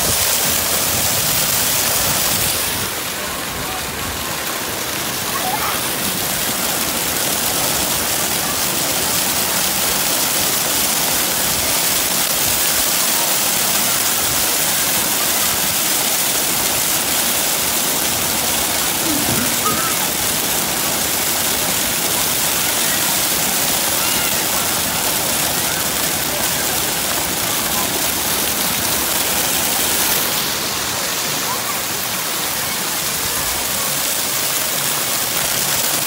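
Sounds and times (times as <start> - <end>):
water pouring and splashing: 0.0 - 36.0.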